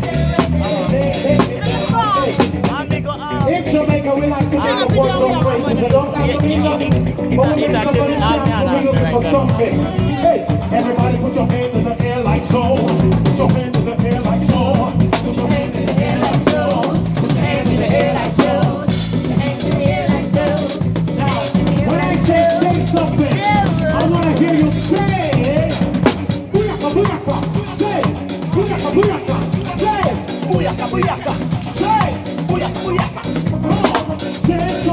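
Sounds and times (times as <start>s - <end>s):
drum rimshots: 0.0s - 3.0s, 4.4s - 34.9s
voice or lead line: 0.0s - 13.4s, 14.0s - 34.9s
live band playing groove: 0.0s - 34.9s.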